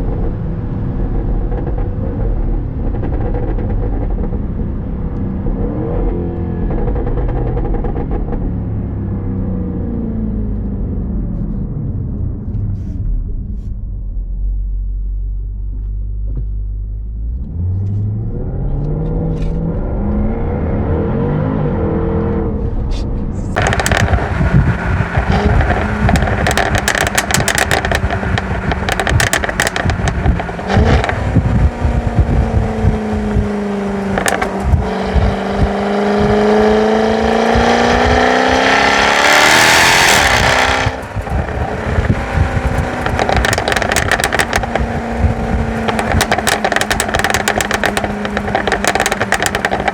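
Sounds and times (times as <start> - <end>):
exhaust cracks: 0.0 - 14.4, 21.6 - 49.9
car engine accelerating: 0.0 - 49.9.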